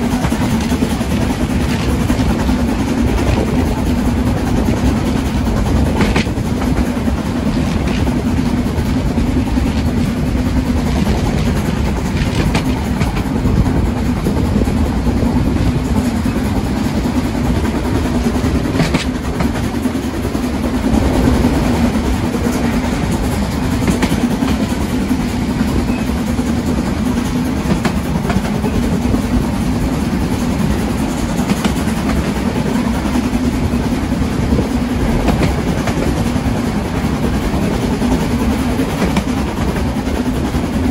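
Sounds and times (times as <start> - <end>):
train rumbling on rails: 0.0 - 40.9
wheels clicking on track: 0.0 - 40.9.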